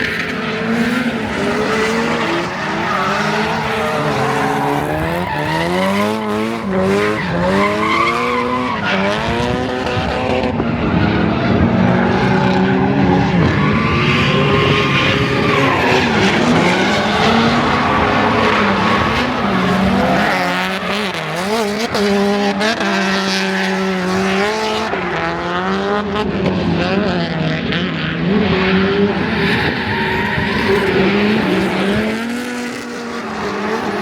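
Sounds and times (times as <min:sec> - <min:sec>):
drift car engine revving: 0:00.0 - 0:34.0.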